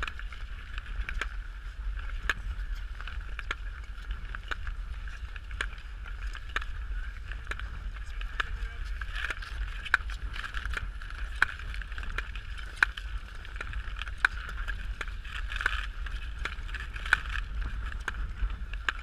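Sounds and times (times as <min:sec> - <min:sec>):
skate blade clicks: 0:00.0 - 0:19.0
skate blades scraping ice: 0:00.0 - 0:19.0
wind rumble on microphone: 0:00.0 - 0:19.0.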